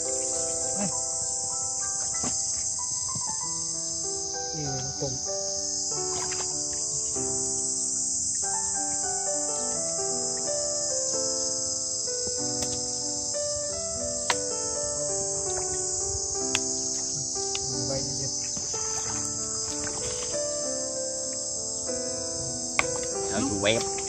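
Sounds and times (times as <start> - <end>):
background music of held notes: 0.0 - 24.0
insects shrilling: 0.0 - 24.0.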